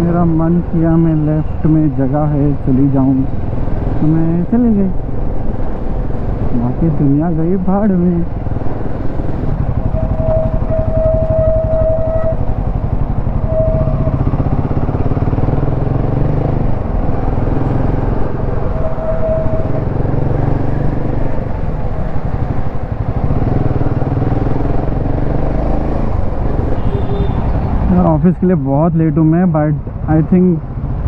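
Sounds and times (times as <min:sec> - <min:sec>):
motorcycle engine rumbling: 0:00.0 - 0:28.8.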